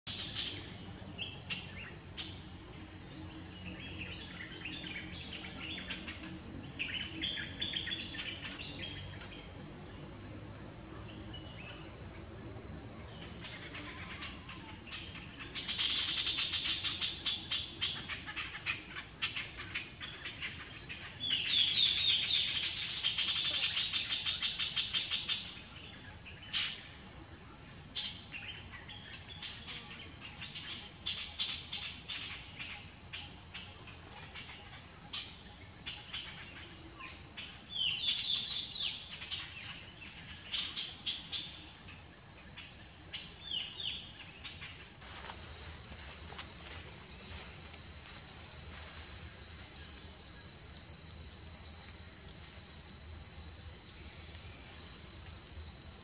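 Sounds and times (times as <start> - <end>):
high-pitched insect chorus: 0.1 - 56.0.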